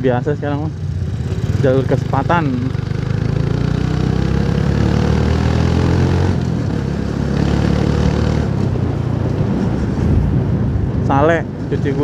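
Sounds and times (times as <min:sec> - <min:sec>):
wind and road noise: 0:00.0 - 0:12.0
motorcycle engine running: 0:00.4 - 0:10.0.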